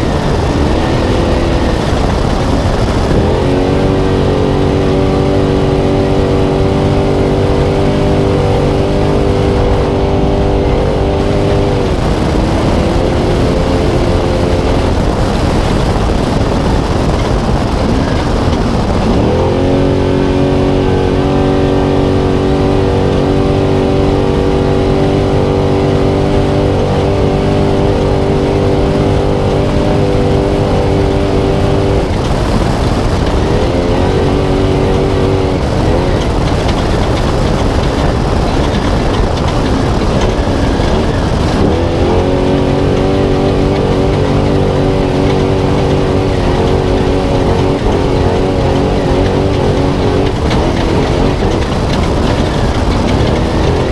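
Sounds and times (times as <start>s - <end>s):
rumble of tyres on terrain: 0.0s - 53.9s
truck engine running hard: 0.0s - 53.9s.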